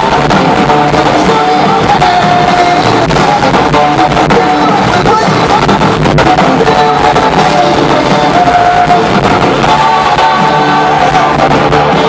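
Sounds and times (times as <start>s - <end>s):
live rock band playing: 0.0s - 12.0s
singer holding long notes: 0.0s - 12.0s.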